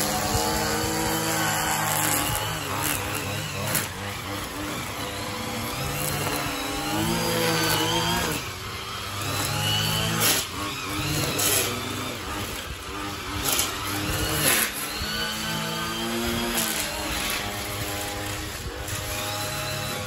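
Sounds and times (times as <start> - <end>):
string trimmer engine revving: 0.0 - 20.0.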